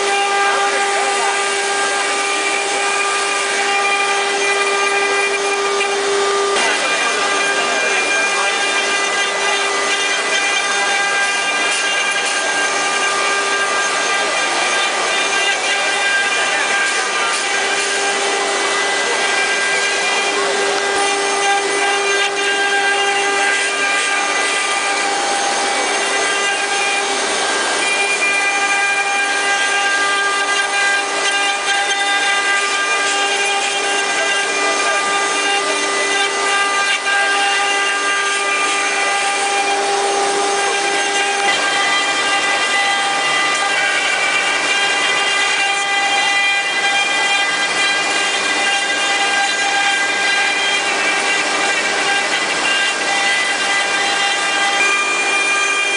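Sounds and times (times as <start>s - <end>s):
router spindles whining: 0.0s - 55.9s.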